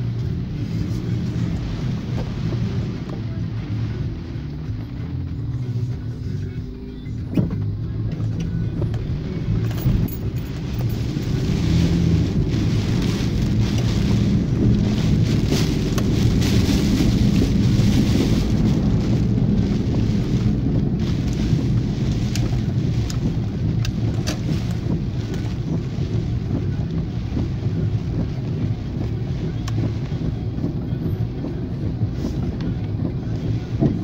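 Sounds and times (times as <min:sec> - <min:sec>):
engine and tyre hum: 0:00.0 - 0:34.0
rain on car windscreen: 0:00.0 - 0:34.0.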